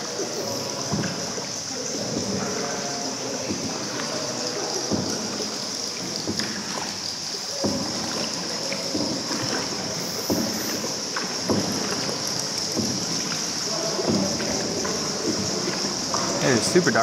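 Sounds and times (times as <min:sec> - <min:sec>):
paddles splashing in echoing water: 0:00.0 - 0:17.0
steady high-pitched hiss: 0:00.0 - 0:17.0.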